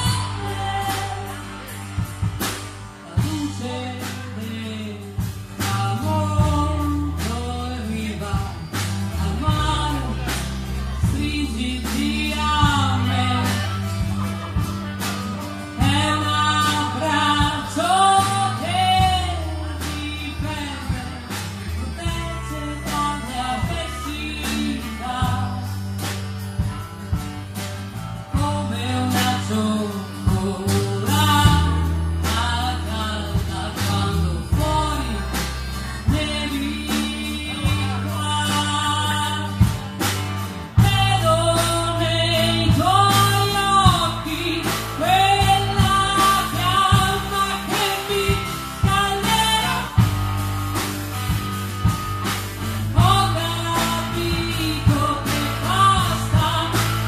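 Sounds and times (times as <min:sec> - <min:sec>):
person singing: 0:00.0 - 0:27.3, 0:27.9 - 0:50.3, 0:52.6 - 0:57.0
live band playing: 0:00.0 - 0:57.0.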